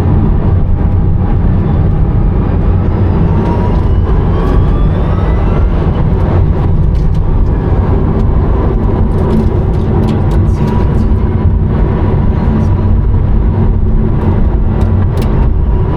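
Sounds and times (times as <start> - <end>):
road and tyre rumble: 0.0 - 15.9.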